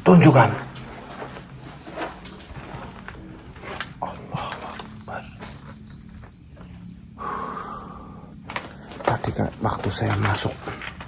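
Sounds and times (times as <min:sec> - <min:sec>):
crickets trilling: 0:00.0 - 0:11.0
pulsed insect chirp: 0:00.0 - 0:11.0.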